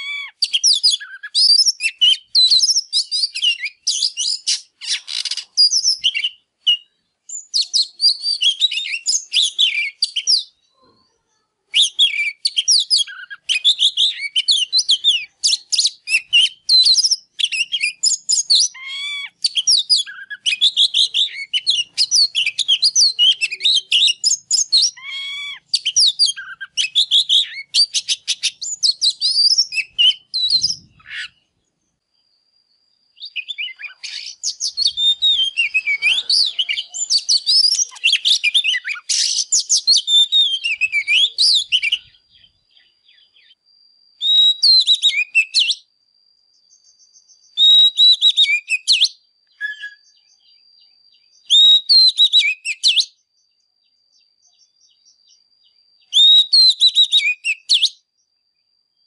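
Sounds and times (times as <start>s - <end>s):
magpie-robin singing: 0.0s - 31.8s, 33.1s - 43.6s, 44.2s - 45.9s, 46.6s - 53.2s, 53.8s - 58.1s.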